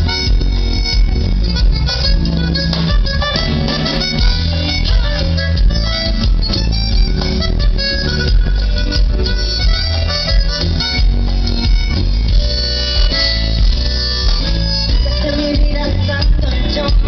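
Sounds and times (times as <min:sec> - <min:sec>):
drums keeping steady beat: 0:00.0 - 0:17.0
guitar: 0:00.0 - 0:17.0
heavy bass: 0:00.0 - 0:17.0
keyboards: 0:00.0 - 0:17.0
live band through pa: 0:00.0 - 0:17.0.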